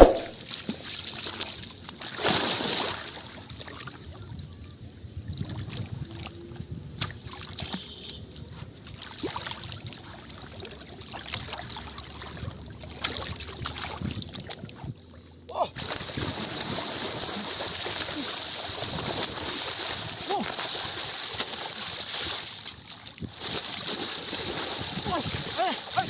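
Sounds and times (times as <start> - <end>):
river water splashing: 0.0 - 4.3, 5.4 - 15.1, 15.8 - 26.0.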